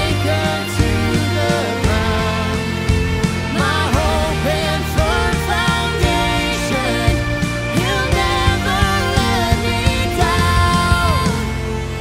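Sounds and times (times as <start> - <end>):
drum and cymbal hits: 0.0 - 12.0
guitar: 0.0 - 12.0
man singing lead: 0.0 - 12.0.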